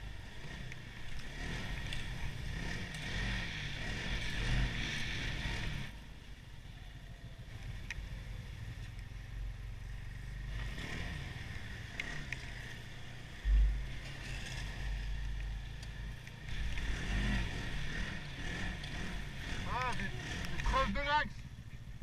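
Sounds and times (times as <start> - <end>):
snowmobile engine drone: 0.0 - 22.0.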